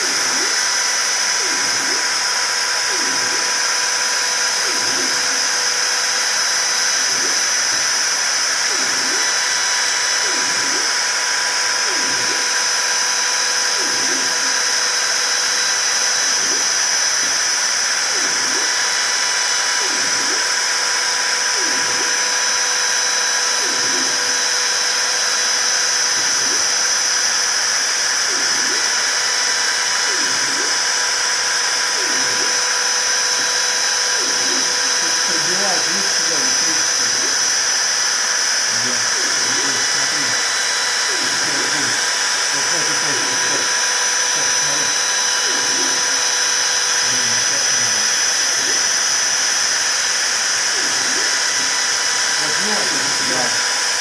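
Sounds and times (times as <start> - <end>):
low pulsing machine sound: 0.0 - 54.0
milling machine whine: 0.0 - 54.0.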